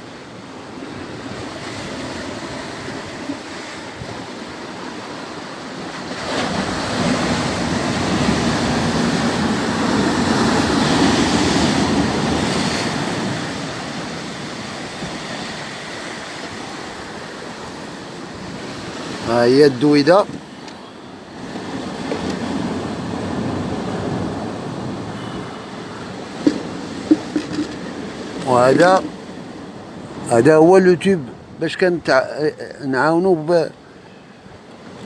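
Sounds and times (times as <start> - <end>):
sea waves washing onto shore: 0.0 - 35.0.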